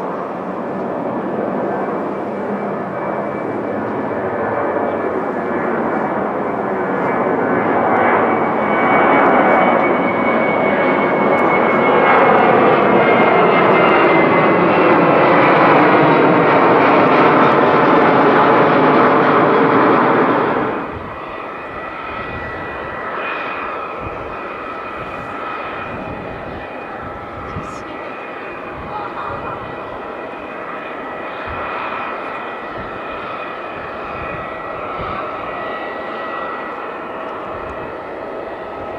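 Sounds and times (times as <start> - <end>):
high jet whine: 0.0 - 38.9
jet engine roar: 0.0 - 38.9.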